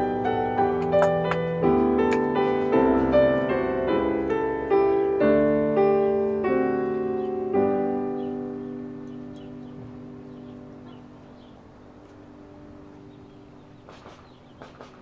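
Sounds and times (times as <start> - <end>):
piano notes and chords: 0.0 - 15.0.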